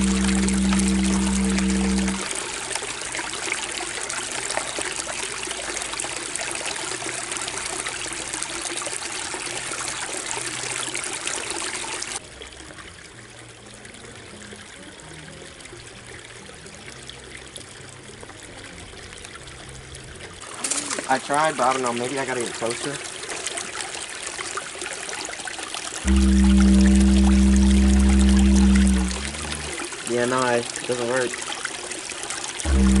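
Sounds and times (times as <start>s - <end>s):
running water splashing: 0.0s - 33.0s.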